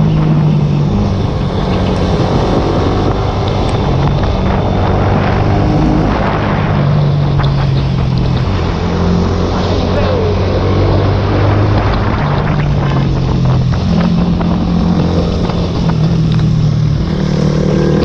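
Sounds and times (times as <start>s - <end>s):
motorcycle engine running hard: 0.0s - 18.0s
wind rush over microphone: 0.0s - 18.0s.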